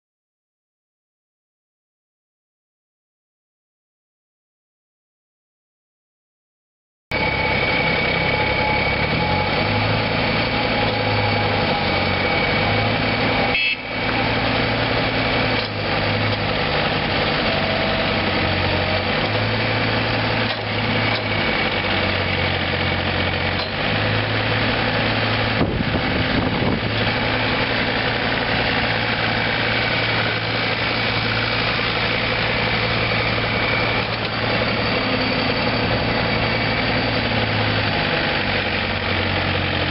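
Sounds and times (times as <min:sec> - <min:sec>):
diesel engine running: 0:07.1 - 0:39.9
high hydraulic whine: 0:07.1 - 0:39.9.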